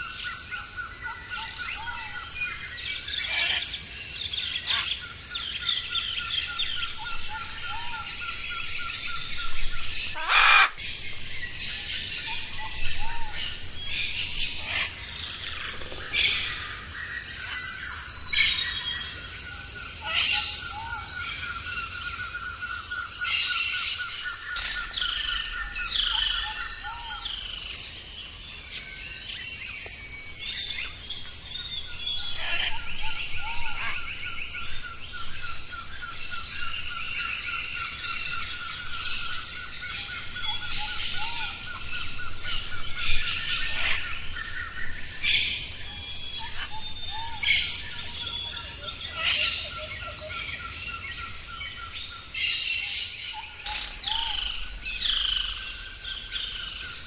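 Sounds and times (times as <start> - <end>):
birds chirping and whistling: 0.0 - 57.0.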